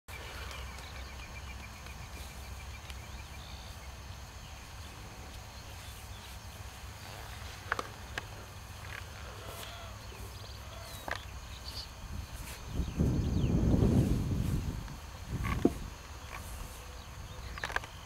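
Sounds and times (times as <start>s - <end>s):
steady low rumble: 0.1s - 18.0s.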